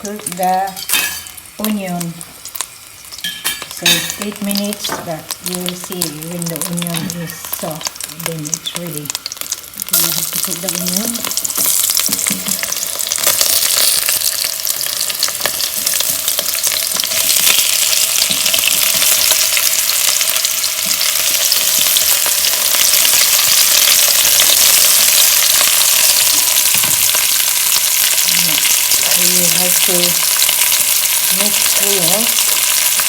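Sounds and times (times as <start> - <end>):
onion sizzling in hot oil: 0.0 - 33.0.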